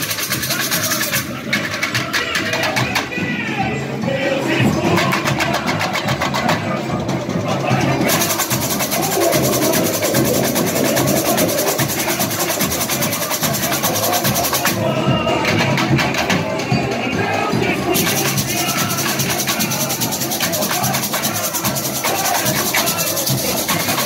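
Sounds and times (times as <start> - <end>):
jingle-shakers: 0.0 - 24.0.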